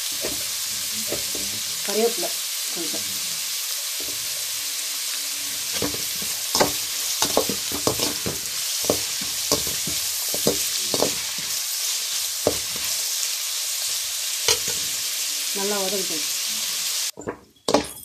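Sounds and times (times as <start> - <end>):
steel spoon scraping a pan: 0.0 - 13.2, 13.8 - 15.9
vegetables sizzling in hot oil: 0.0 - 17.2.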